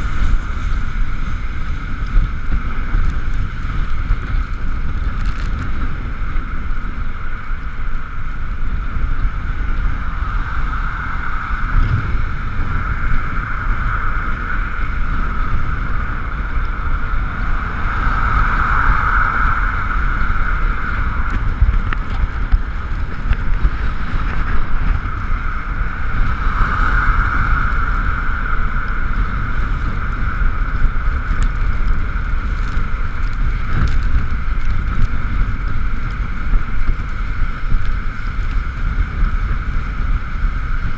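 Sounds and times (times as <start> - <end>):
electric scooter motor whine: 0.0 - 40.9
wind rumbling on microphone: 0.0 - 40.9.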